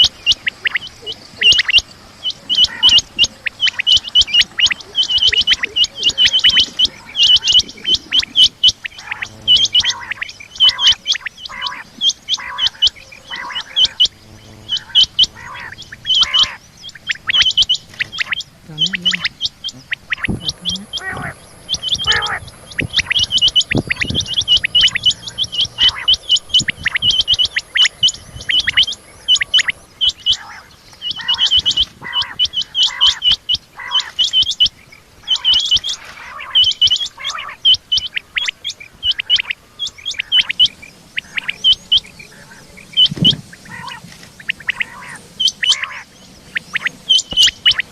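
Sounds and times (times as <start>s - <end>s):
quail calling: 0.0s - 47.9s.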